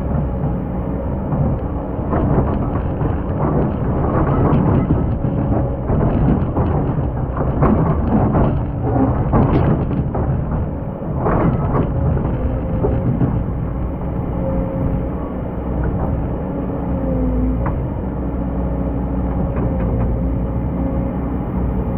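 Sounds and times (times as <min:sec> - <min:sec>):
excavator diesel engine: 0:00.0 - 0:21.9.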